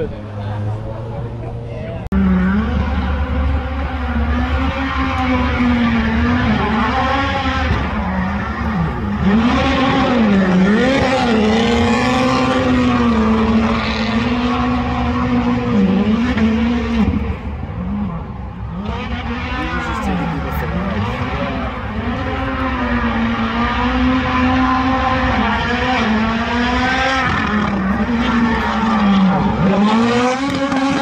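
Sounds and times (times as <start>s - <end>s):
car engine at high revs: 0.0s - 31.0s
rushing tire noise: 0.0s - 31.0s.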